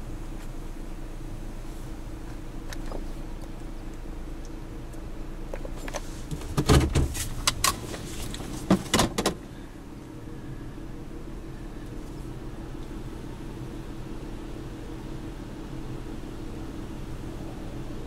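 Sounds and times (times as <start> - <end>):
vehicle humming: 0.0 - 18.0.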